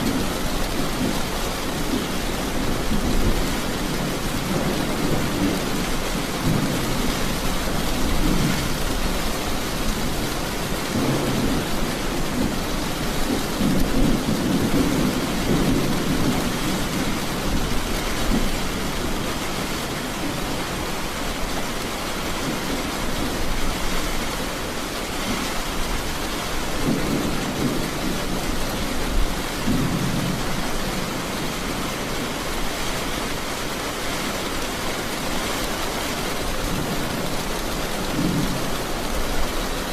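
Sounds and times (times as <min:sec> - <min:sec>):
thunder rumbling: 0:00.0 - 0:21.1, 0:25.0 - 0:33.6, 0:36.1 - 0:39.9
heavy rain: 0:00.0 - 0:39.9.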